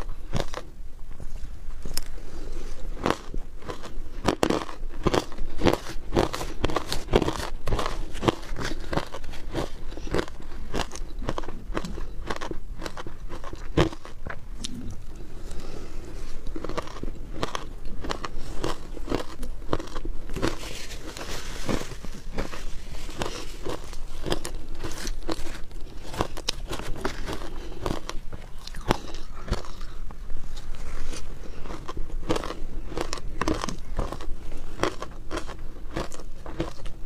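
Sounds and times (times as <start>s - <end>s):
chewing crunchy ice: 0.0s - 0.8s, 1.9s - 37.0s.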